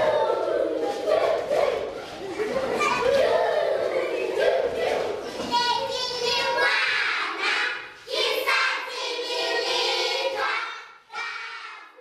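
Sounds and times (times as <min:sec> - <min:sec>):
group of voices singing: 0:00.0 - 0:02.4, 0:03.0 - 0:11.7.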